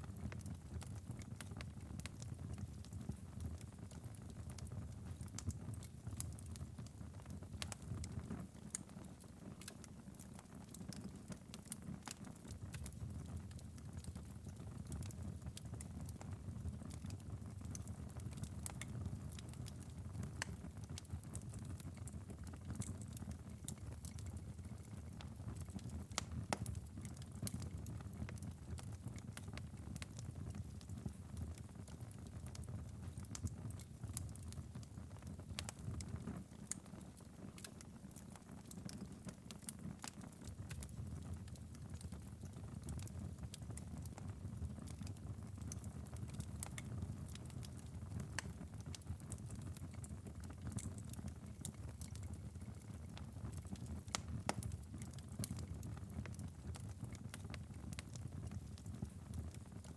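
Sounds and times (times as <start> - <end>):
wood fire burning: 0.2 - 59.9.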